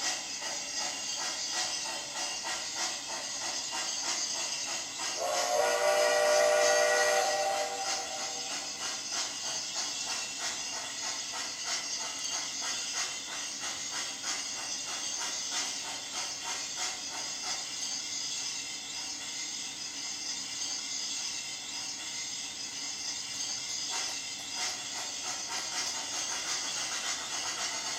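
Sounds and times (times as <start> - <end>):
model steam locomotive chuffing: 0.0 - 27.9.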